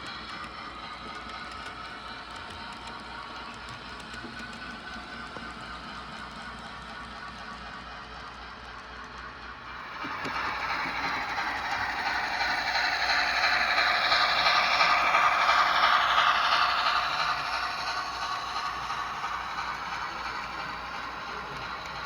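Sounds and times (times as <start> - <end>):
model train wheels clattering: 0.0 - 22.0.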